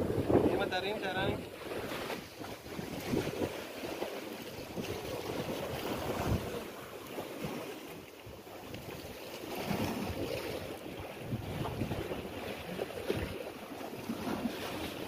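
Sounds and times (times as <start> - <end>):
wind buffeting microphone: 0.0 - 7.6, 8.3 - 13.4
sea waves against rocks: 0.0 - 15.0.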